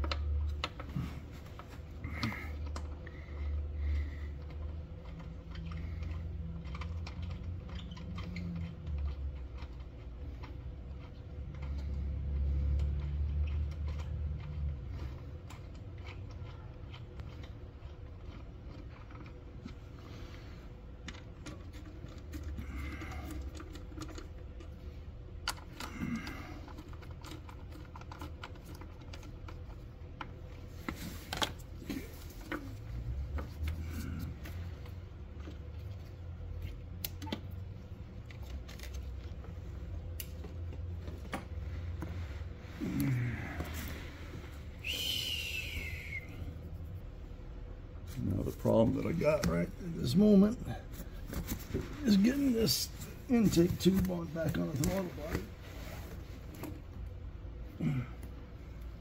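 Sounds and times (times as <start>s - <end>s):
low background hum: 0.0s - 59.0s.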